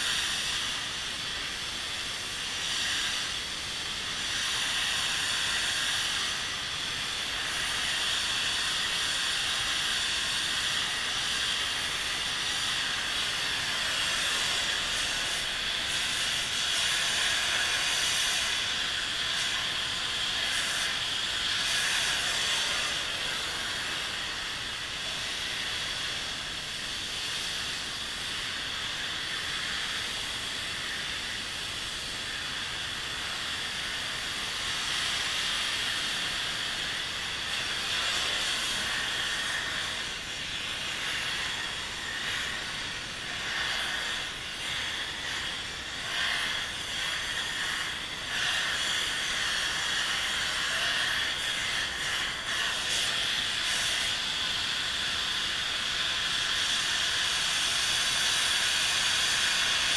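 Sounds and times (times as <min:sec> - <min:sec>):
gas torch hissing: 0:00.0 - 0:59.9.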